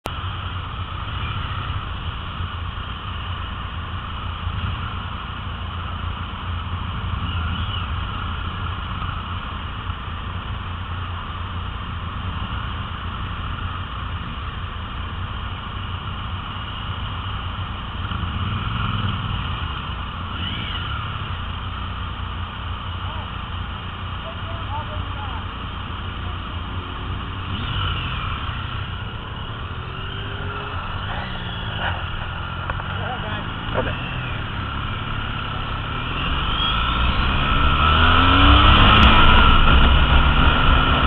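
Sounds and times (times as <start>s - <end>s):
motorcycle engine humming: 0.0s - 41.0s
other motorcycles: 0.0s - 41.0s.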